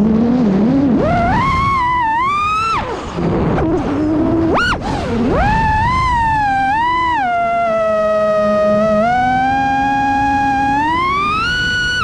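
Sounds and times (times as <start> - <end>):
quadcopter motors whining: 0.8 - 12.0.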